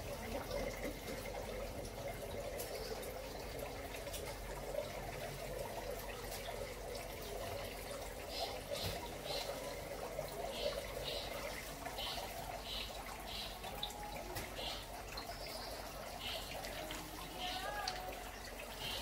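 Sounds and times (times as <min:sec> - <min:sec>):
water trickling in pond: 0:00.0 - 0:19.0.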